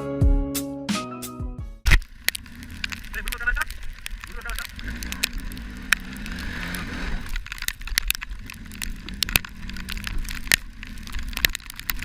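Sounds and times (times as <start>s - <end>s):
sharp crackling clicks: 1.8s - 12.0s.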